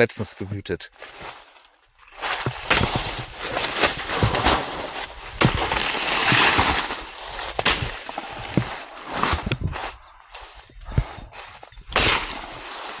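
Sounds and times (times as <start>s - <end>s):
dry leaves rustling and crackling: 0.9s - 10.7s, 11.4s - 13.0s.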